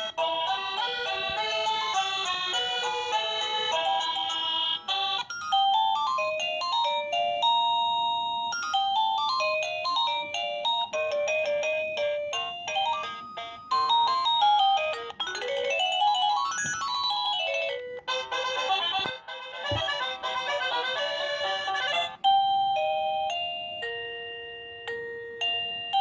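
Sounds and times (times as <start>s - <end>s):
electronic doorbell chime melodies: 0.0s - 20.1s, 20.7s - 26.0s.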